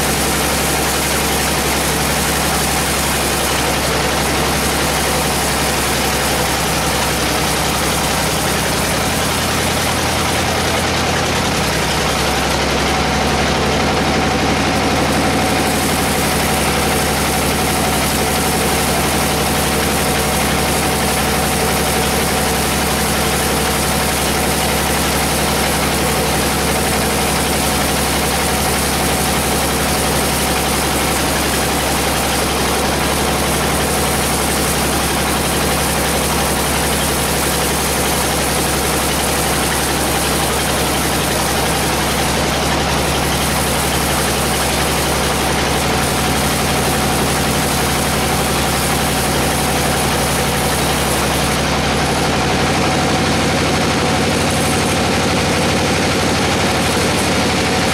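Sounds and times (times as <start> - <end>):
band saw machinery drone: 0.0 - 57.9.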